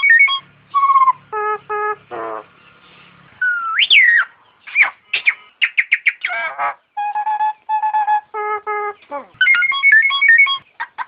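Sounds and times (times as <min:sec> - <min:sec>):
myna calling: 0:00.0 - 0:02.6, 0:03.4 - 0:11.0.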